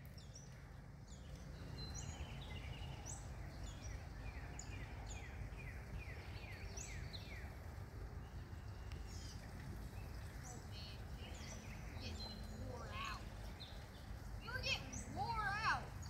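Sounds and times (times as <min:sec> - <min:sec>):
low outdoor background noise: 0:00.0 - 0:16.0
small birds chirping: 0:00.0 - 0:16.0.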